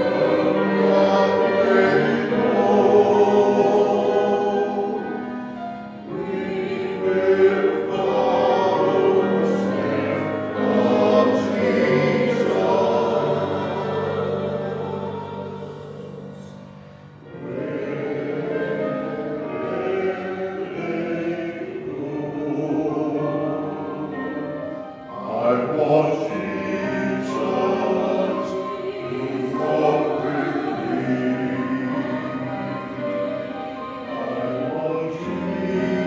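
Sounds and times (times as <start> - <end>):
church choir singing: 0.0 - 36.0
musical accompaniment: 0.0 - 36.0.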